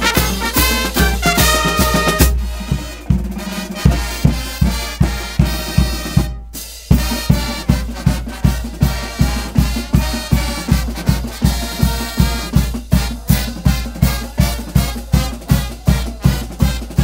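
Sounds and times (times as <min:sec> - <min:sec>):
bass drum and snare beat: 0:00.0 - 0:17.0
pep band playing upbeat tune: 0:00.0 - 0:17.0.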